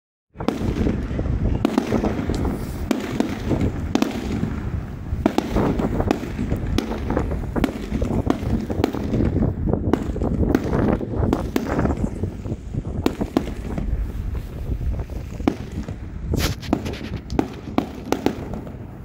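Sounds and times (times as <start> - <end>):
fireworks bangs and crackles: 0.3 - 19.0.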